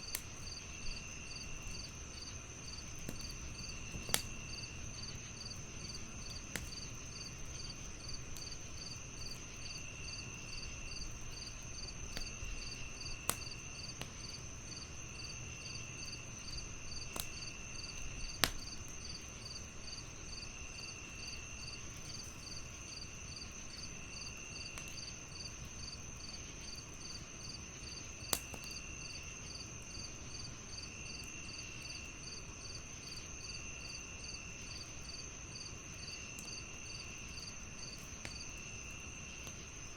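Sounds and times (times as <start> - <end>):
fire crackling pops: 0.0 - 33.3, 34.5 - 39.9
crickets chirping: 0.0 - 39.9
wood fire hissing: 0.0 - 39.9.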